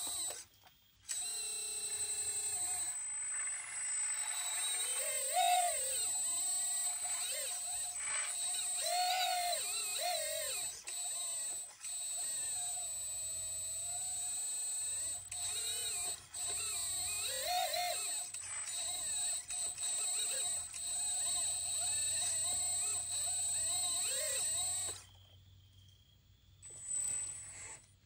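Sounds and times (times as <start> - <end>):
hydraulic pump whining: 0.0 - 25.3.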